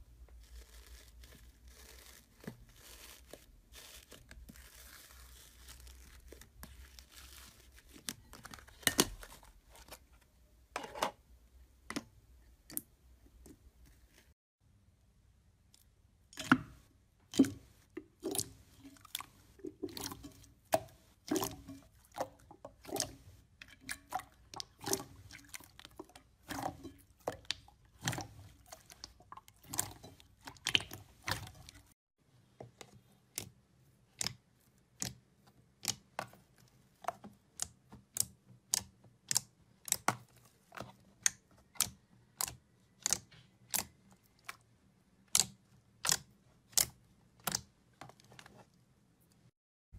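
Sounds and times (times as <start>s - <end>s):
slime squishing: 0.0s - 10.0s, 15.8s - 32.0s, 32.7s - 49.4s.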